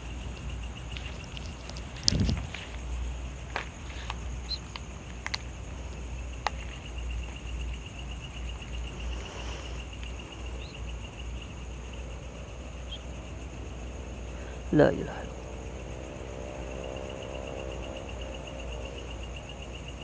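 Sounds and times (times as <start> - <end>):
insect trilling: 0.0 - 20.0
low steady rumble: 0.0 - 20.0
night insects chirring: 0.0 - 20.0.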